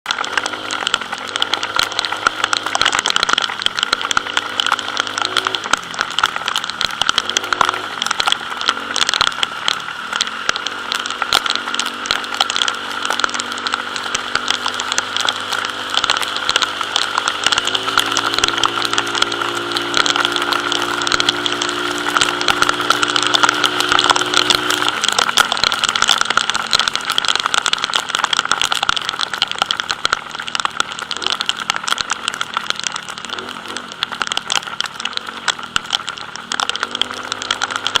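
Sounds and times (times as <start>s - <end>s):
motor scooter engine running: 0.1s - 38.0s
rain tapping on camera: 0.1s - 38.0s.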